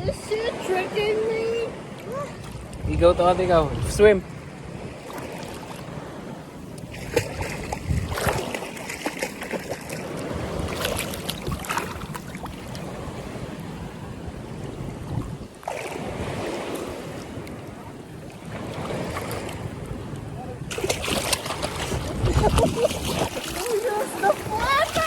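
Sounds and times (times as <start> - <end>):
seawater splashing: 0.0 - 25.0
waves washing: 0.0 - 25.0
wind buffeting microphone: 0.0 - 25.0.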